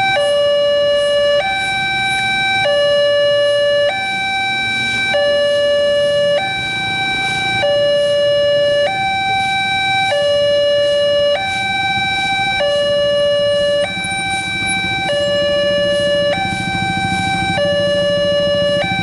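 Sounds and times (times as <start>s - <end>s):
level crossing two-tone alarm: 0.0s - 19.0s.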